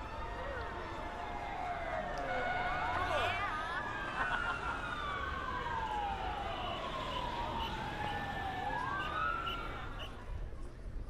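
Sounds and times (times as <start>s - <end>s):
siren wailing: 0.0s - 10.2s
second siren: 0.0s - 10.4s
city traffic rumble: 0.0s - 11.0s.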